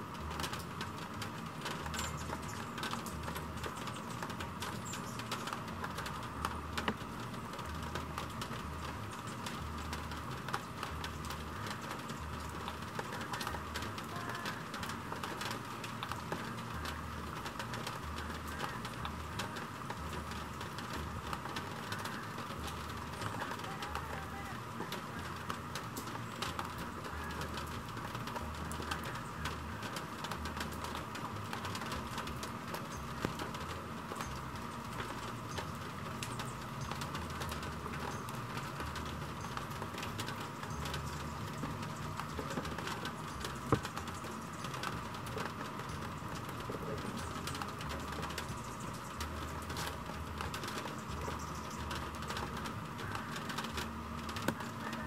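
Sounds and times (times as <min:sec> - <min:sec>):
raindrops ticking: 0:00.0 - 0:55.0
steady rain falling: 0:00.0 - 0:55.0
birds calling: 0:01.6 - 0:55.0.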